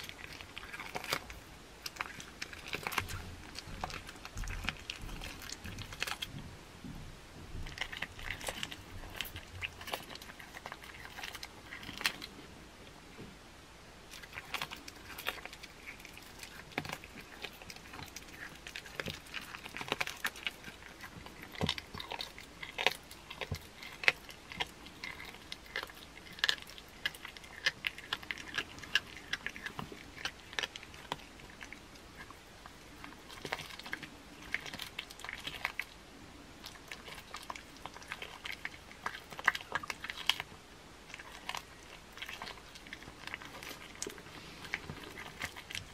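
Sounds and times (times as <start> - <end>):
cat chewing raw meat and bone: 0.0 - 13.3, 14.0 - 45.9.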